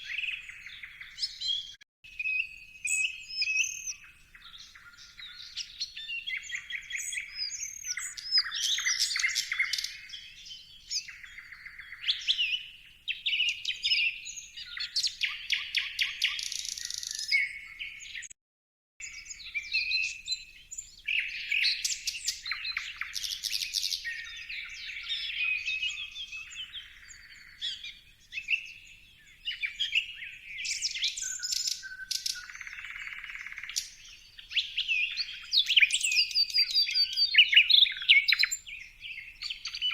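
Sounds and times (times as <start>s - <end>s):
birds chirping and calling: 0.0s - 18.4s, 19.0s - 39.9s.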